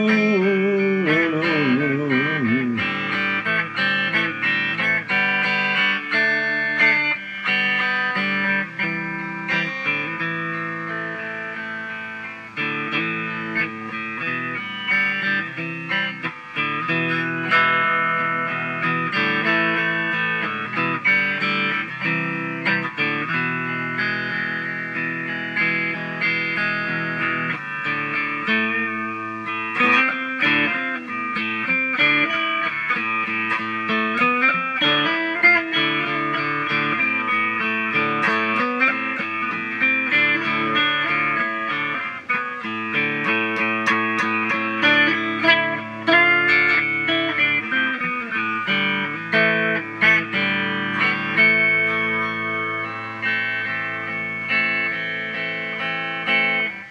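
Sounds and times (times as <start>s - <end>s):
electric guitar melody: 0.0s - 56.9s.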